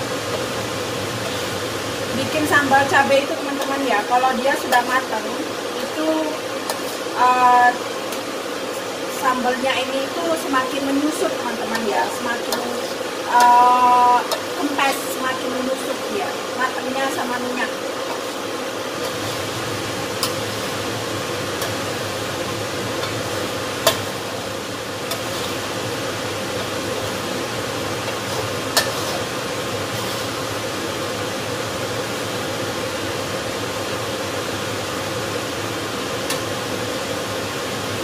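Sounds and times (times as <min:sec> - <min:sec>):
sauce sizzling in oil: 0:00.0 - 0:38.0.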